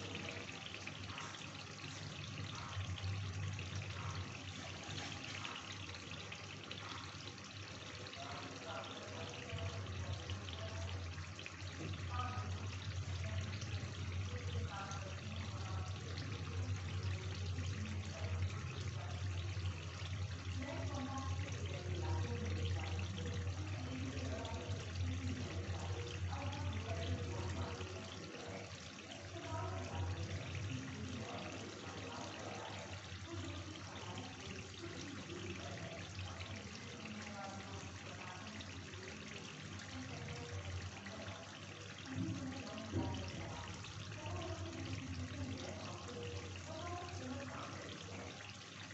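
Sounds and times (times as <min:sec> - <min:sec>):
gravy simmering and bubbling: 0:00.0 - 0:48.9.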